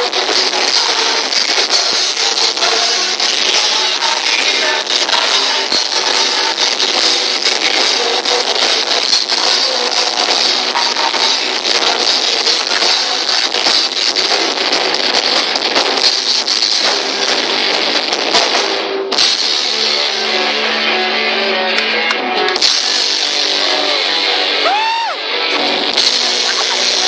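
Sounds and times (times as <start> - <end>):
person singing: 0.0 - 15.6, 19.5 - 27.0
distorted electric guitars: 0.0 - 27.0
drums: 0.0 - 27.0.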